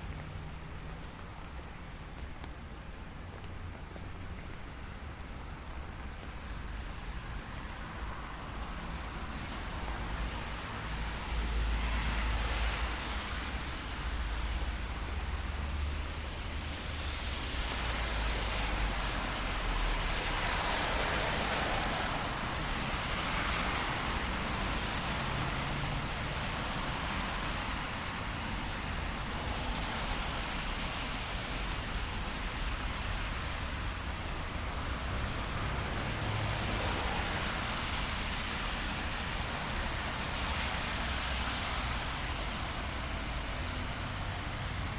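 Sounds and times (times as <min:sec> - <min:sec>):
light rain: 0:00.0 - 0:44.9
tyres hissing on wet road: 0:00.0 - 0:44.9.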